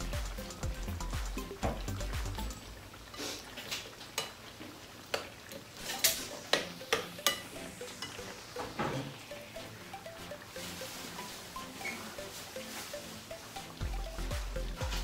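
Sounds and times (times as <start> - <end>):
fritters sizzling in hot oil: 0.0 - 15.0.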